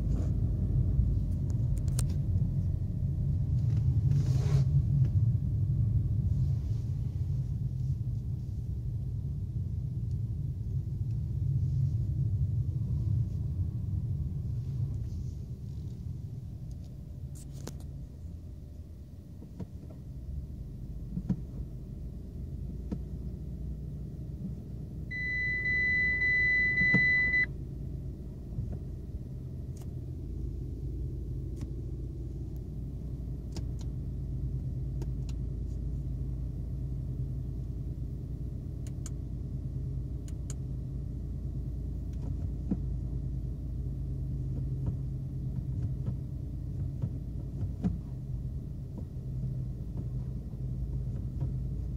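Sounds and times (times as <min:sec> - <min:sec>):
car engine idling: 0:04.8 - 0:51.9.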